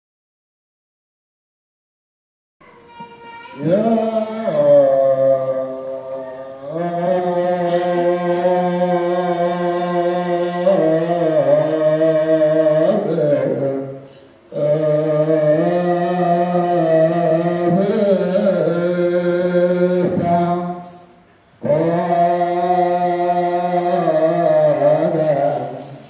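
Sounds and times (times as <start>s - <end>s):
men chanting: 3.6s - 26.0s.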